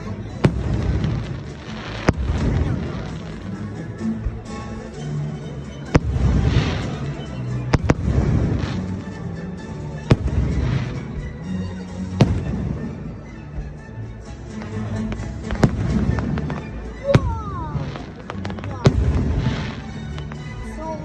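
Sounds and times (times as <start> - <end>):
fireworks bursting with bangs: 0.0 - 4.8, 5.9 - 13.8, 14.5 - 20.7
fireworks crackling: 0.0 - 5.0, 5.9 - 13.8, 14.4 - 21.0
orchestral music: 0.0 - 21.0.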